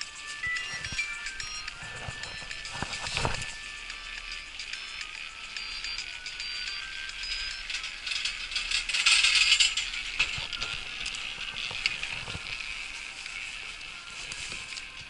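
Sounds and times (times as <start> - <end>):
chairlift rattling over sheave wheels: 0.0 - 15.0.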